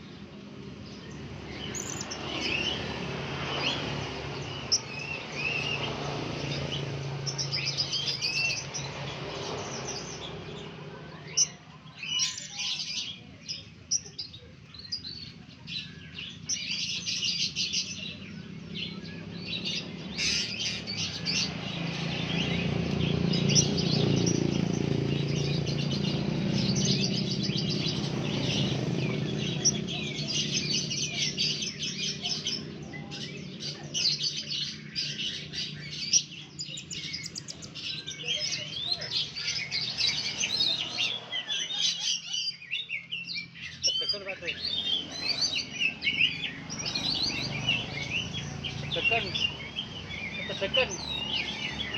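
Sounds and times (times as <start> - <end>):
parrots chirping: 0.0 - 51.9.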